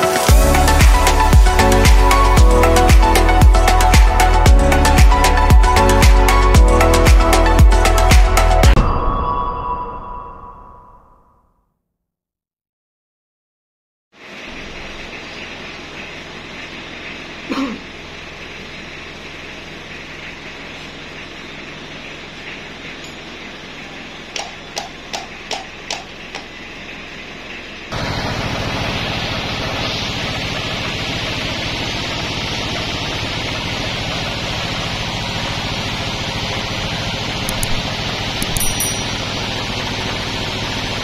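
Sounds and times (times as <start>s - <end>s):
sawmill machinery running: 0.0s - 8.6s, 14.2s - 41.0s.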